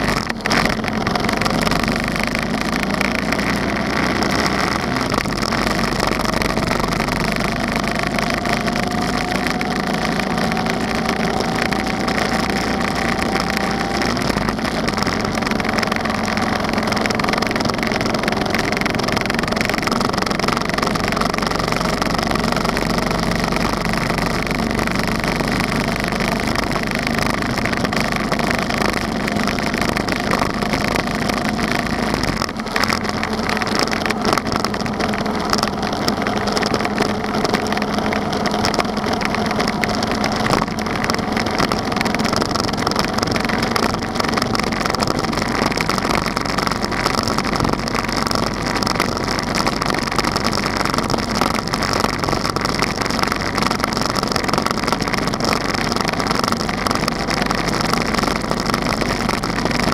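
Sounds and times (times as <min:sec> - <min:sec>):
motorcycle engine rumbling: 0:00.0 - 0:59.9
wind rushing on microphone: 0:00.0 - 0:59.9.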